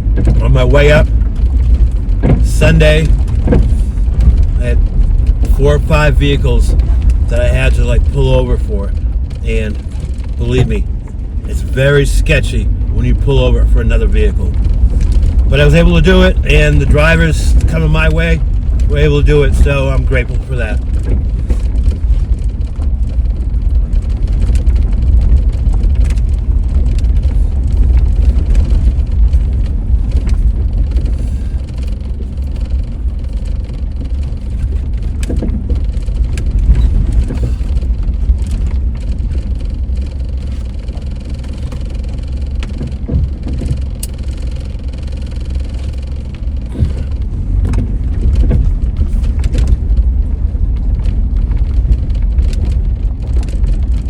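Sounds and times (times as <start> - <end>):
knocks and rattles in cab: 0.0 - 54.0
vehicle engine and road rumble: 0.0 - 54.0.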